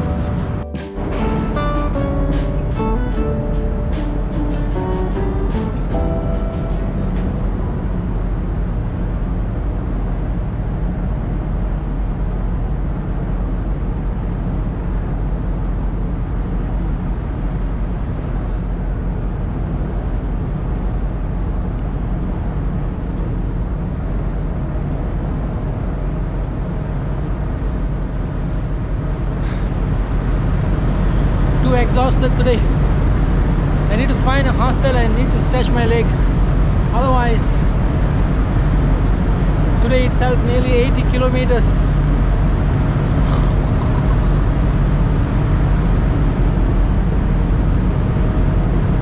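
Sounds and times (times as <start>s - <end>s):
ferry engines rumbling: 0.0s - 49.0s.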